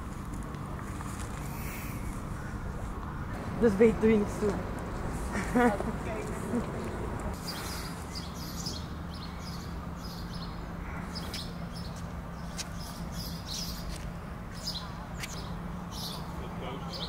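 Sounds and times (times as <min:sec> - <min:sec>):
steady low hum: 0:00.0 - 0:17.0
small birds chirping: 0:01.0 - 0:17.0.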